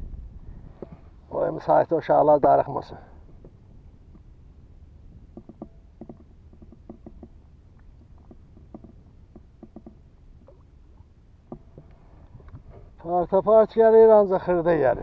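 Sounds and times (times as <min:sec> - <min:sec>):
water: 0:00.0 - 0:15.0
wind: 0:00.0 - 0:15.0.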